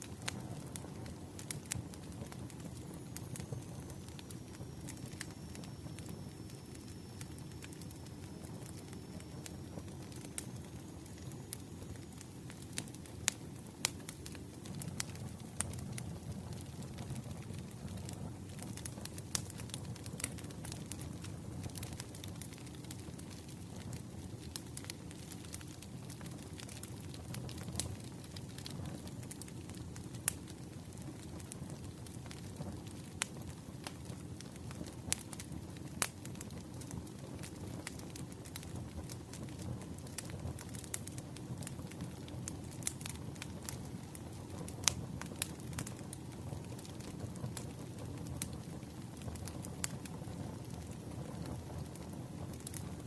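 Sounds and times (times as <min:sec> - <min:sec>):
burning wood crackling and popping: 0:00.0 - 0:53.0
campfire flame rumble: 0:00.0 - 0:53.0.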